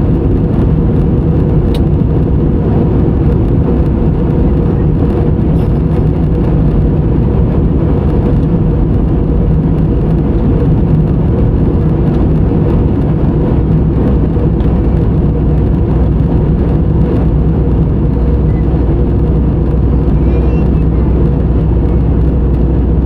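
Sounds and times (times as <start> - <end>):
jet engines rumbling: 0.0 - 23.0
rushing air: 0.0 - 23.0.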